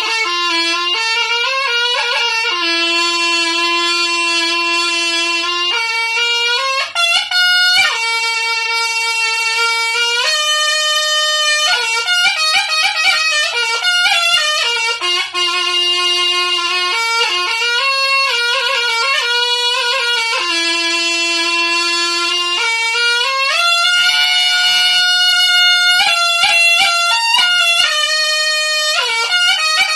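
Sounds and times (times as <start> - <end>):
double-reed shawm melody: 0.0 - 29.9.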